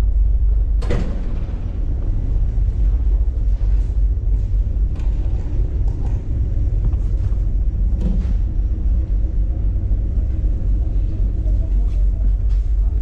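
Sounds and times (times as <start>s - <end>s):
low rumble of ship engines: 0.0s - 13.0s.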